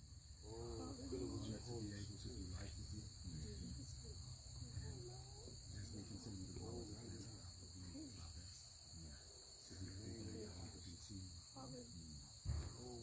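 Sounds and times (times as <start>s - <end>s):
insects trilling: 0.0s - 13.0s
faint voices murmuring: 0.5s - 13.0s.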